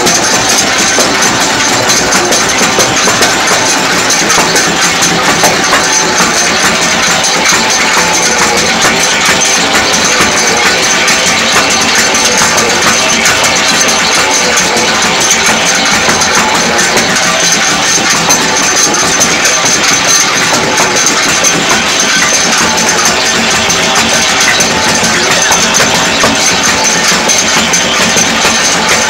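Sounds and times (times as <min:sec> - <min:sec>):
machine motor and conveyor running: 0:00.0 - 0:29.0.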